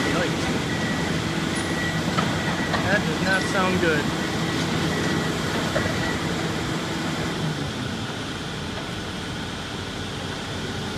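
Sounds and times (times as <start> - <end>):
excavator running: 0.0 - 10.9.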